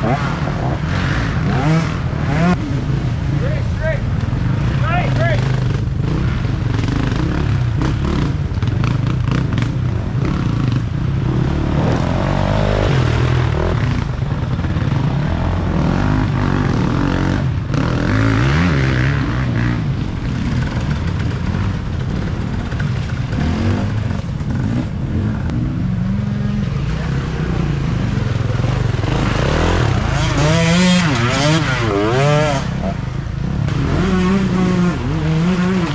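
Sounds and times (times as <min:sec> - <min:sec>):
dirt bikes revving: 0:00.0 - 0:35.9.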